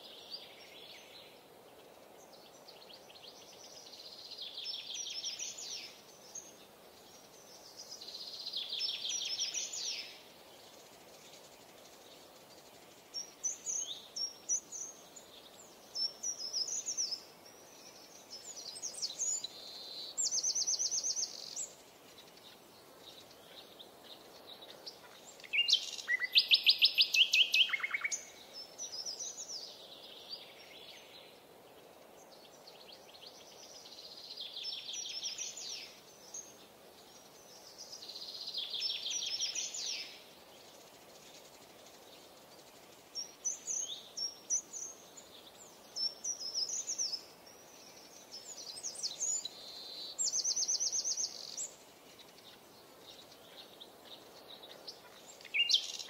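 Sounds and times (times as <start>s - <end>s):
faint steady hiss: 0.0s - 56.0s
songbirds trilling: 0.0s - 56.0s.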